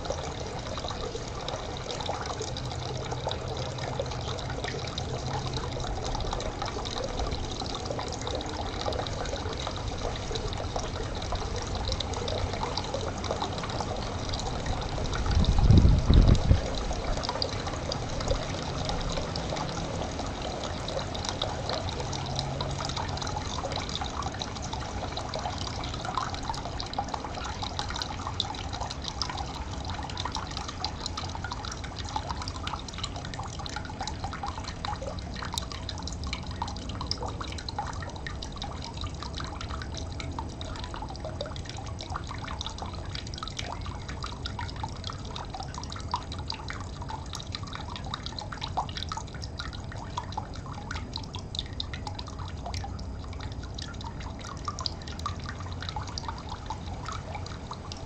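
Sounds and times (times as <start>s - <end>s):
stream water trickling: 0.0s - 58.0s.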